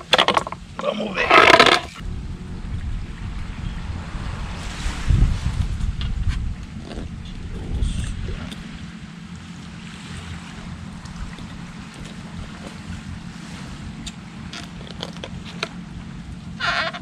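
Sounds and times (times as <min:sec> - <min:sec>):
surf washing on beach: 0:00.8 - 0:14.6
wind on microphone: 0:01.1 - 0:17.0.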